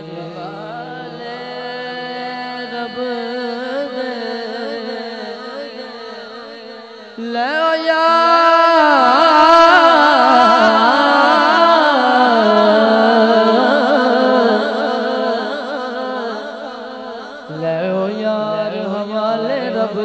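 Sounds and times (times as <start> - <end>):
man singing melismatic lines: 0.0 - 20.0.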